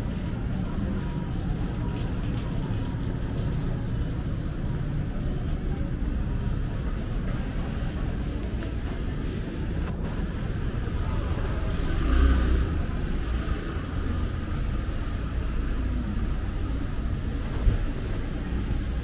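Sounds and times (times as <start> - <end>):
street traffic rumbling: 0.0 - 19.0.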